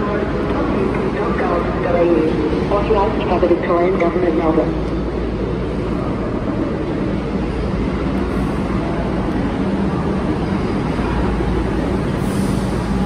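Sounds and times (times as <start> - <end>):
rumble of trains: 0.0 - 13.0.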